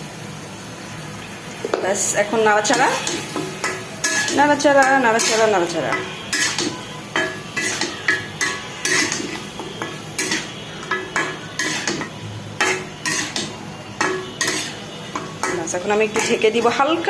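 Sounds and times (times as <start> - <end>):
spoon scraping and clinking in pot: 2.7 - 16.8.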